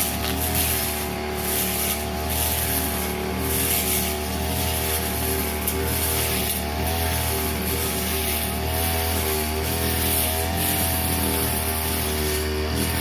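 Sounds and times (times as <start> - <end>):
brush cutter engine running: 0.0 - 13.0
high hiss of cutting grass: 0.0 - 13.0.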